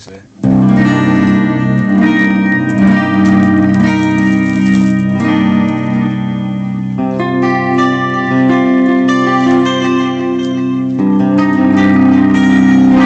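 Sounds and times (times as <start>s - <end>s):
electric guitar chords: 0.3s - 13.0s.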